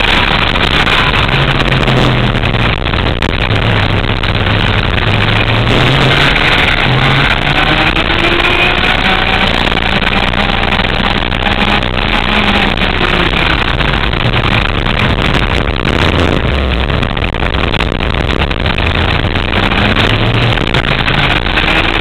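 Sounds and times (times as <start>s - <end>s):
kart engine at full throttle: 0.0s - 22.0s
wind rush on microphone: 0.0s - 22.0s.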